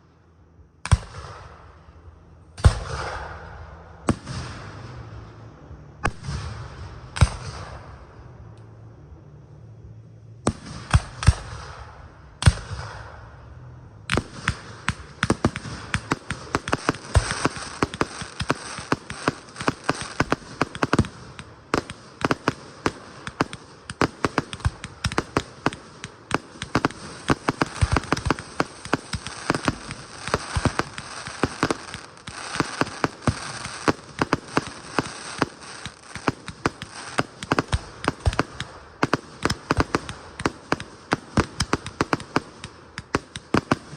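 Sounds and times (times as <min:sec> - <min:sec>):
fireworks bangs and crackle: 0:00.8 - 0:08.6, 0:10.4 - 0:43.9.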